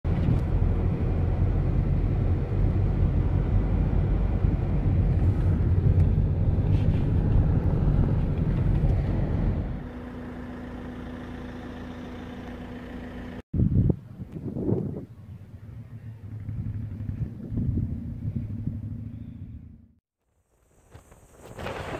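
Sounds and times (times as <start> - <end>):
car road and engine rumble: 0.1 - 20.0.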